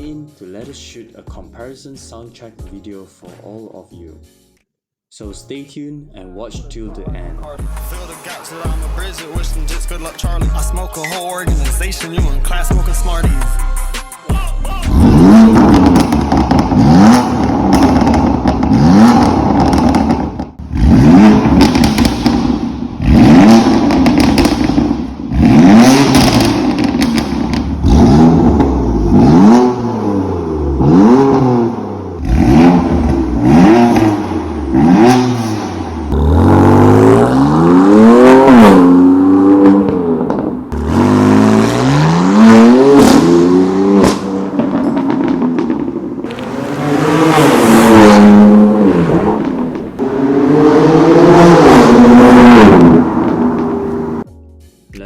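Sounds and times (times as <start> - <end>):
car engine revving: 7.0 - 11.9, 14.8 - 54.3.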